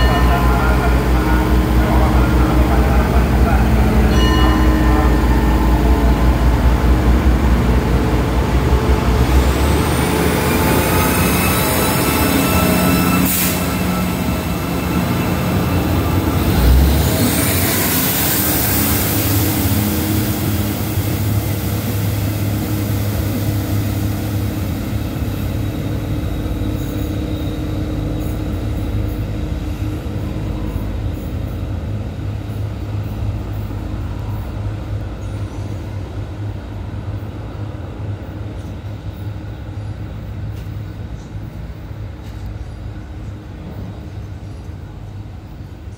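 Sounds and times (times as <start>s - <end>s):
diesel train engines: 0.0s - 45.9s
train wheels on rails: 0.0s - 45.9s.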